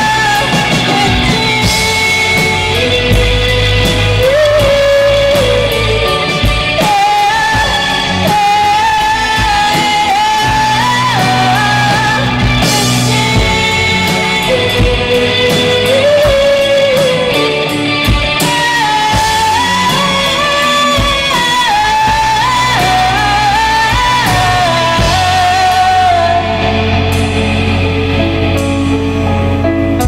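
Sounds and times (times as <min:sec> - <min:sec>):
drums with cymbals: 0:00.0 - 0:29.0
bass guitar: 0:00.0 - 0:30.0
electric guitars: 0:00.0 - 0:30.0
keyboard: 0:00.0 - 0:30.0
person singing long notes: 0:00.0 - 0:30.0.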